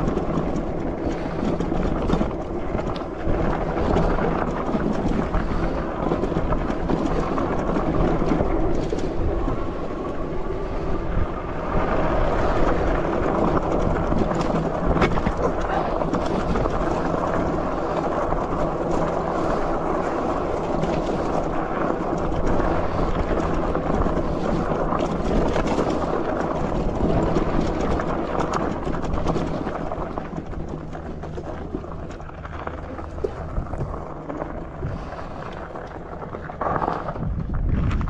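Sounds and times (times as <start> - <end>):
bike tyres rumbling on gravel: 0.0 - 38.0
wind buffeting microphone: 0.0 - 38.0.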